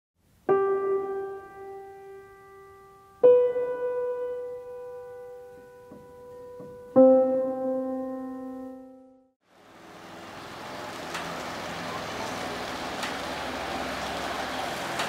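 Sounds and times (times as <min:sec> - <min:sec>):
slow piano music: 0:00.2 - 0:15.0.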